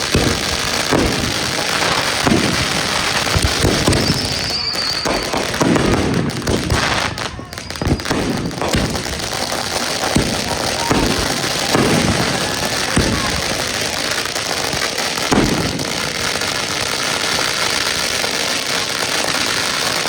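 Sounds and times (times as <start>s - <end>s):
firework booms: 0.0s - 20.0s
fireworks crackling: 0.0s - 20.0s.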